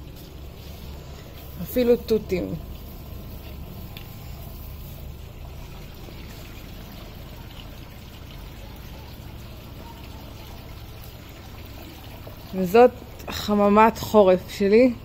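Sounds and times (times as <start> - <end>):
water trickling through pipes: 0.0 - 15.0.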